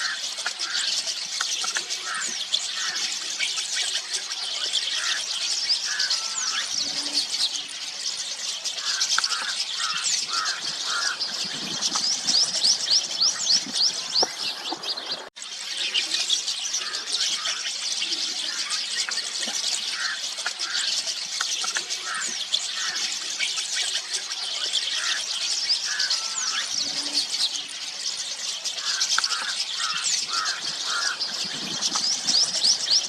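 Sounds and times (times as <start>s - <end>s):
flock of starlings chattering: 0.0s - 33.0s.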